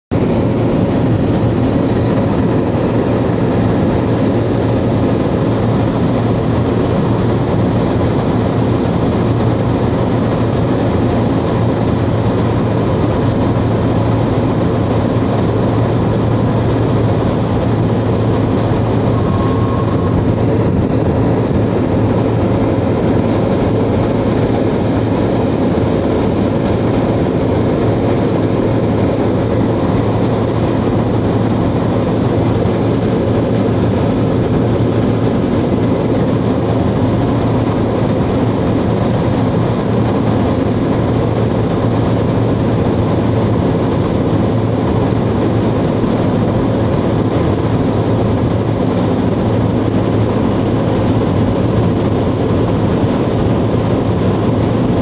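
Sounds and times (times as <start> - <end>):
road and tyre noise inside car: 0.1 - 55.0.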